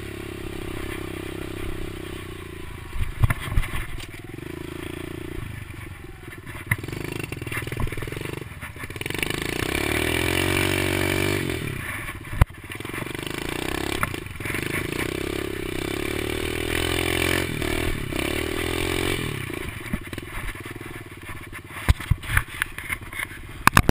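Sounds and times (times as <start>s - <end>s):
motorbike engine revving: 0.0s - 23.9s.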